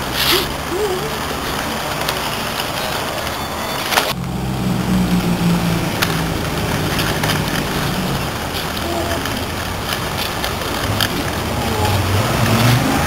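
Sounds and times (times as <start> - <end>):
chair casters rolling over bricks: 0.0 - 13.0
street traffic: 0.0 - 13.0.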